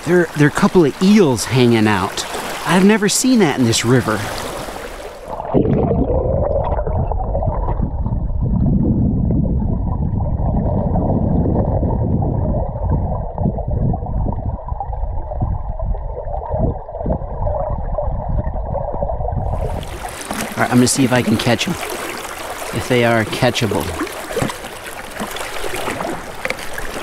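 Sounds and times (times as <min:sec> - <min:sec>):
muffled underwater river rushing: 0:00.0 - 0:27.0.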